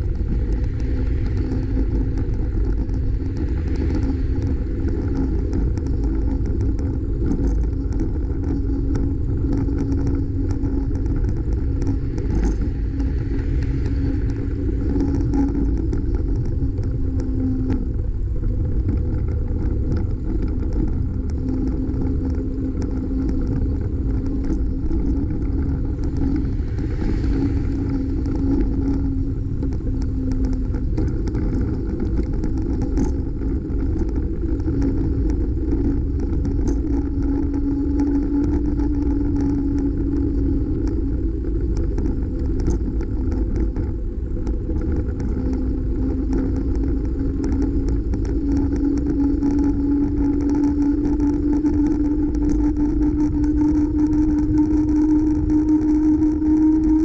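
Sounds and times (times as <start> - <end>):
steady hum rising in pitch: 0.0 - 57.0
wind and road rumble: 0.0 - 57.0.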